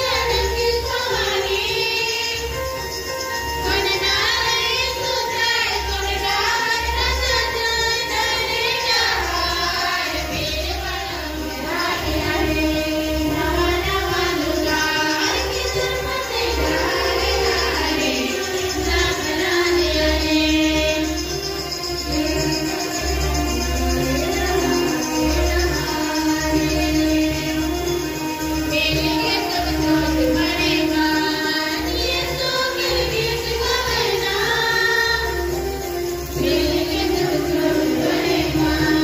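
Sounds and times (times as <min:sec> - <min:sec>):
voices singing a melody: 0:00.0 - 0:39.0.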